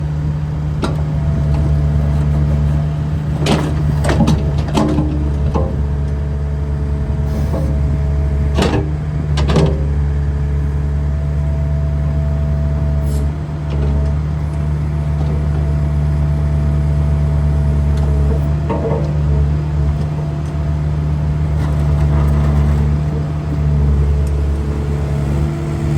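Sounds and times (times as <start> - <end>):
excavator diesel engine running: 0.0 - 25.9.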